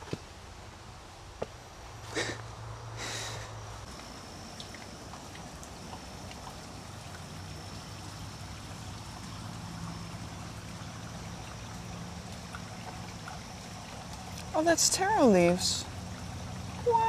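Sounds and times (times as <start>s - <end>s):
running water trickling: 1.7s - 17.0s.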